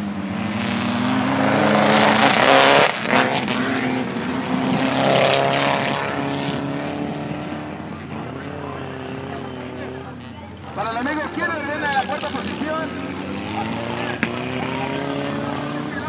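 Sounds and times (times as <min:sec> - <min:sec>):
race car engine running hard: 0:00.0 - 0:16.0.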